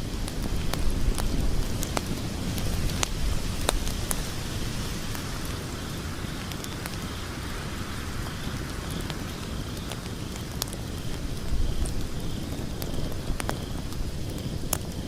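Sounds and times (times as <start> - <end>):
sharp fire pops: 0.0 - 7.2, 8.2 - 15.0
log fire crackling: 0.0 - 15.0.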